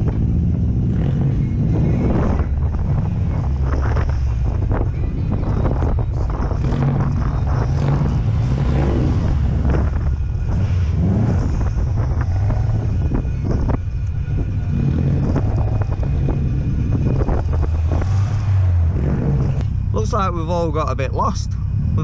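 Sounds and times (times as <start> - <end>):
car engine low drone: 0.0 - 22.0.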